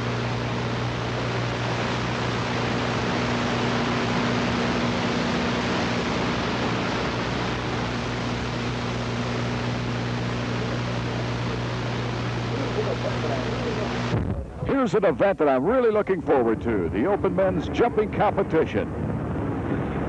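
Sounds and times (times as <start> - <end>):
low constant hum: 0.0 - 20.0.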